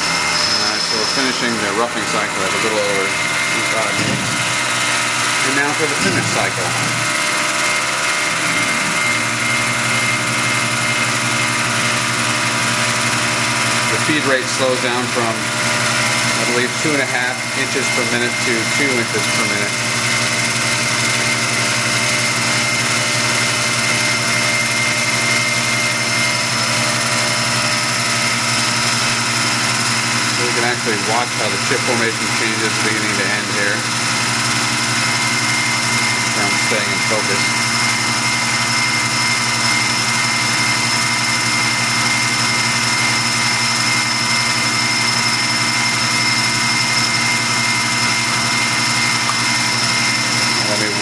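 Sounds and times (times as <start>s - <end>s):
lathe humming with high whine: 0.0s - 51.0s.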